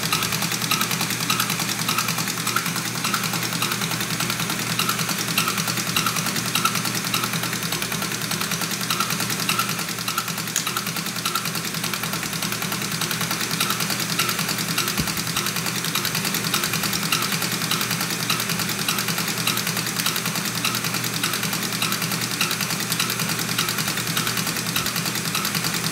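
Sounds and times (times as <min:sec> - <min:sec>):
injection pump running with ticking: 0:00.0 - 0:25.9.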